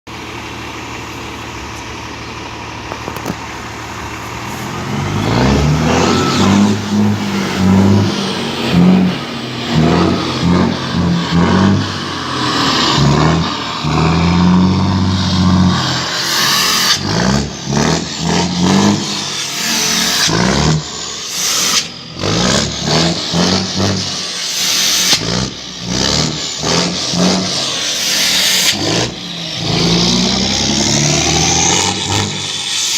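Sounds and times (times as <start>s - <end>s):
diesel truck engine revving: 0.1s - 32.9s
engine brake exhaust rumble: 0.1s - 32.9s.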